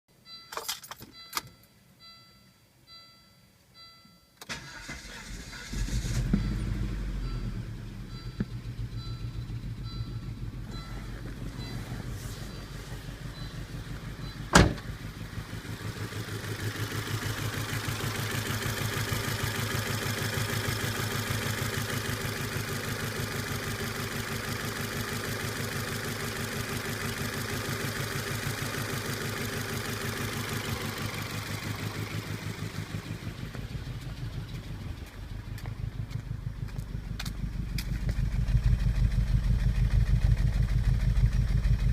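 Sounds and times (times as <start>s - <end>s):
car engine idling roughly: 8.2s - 41.9s.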